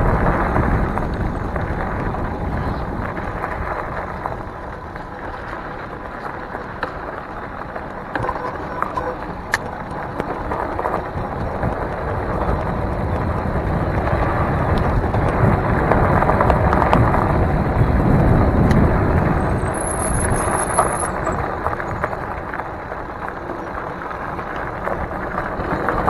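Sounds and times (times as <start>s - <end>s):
bike tyres rolling on gravel: 0.0s - 26.0s
gravel ticks: 0.0s - 26.0s
wind on microphone: 0.0s - 26.0s.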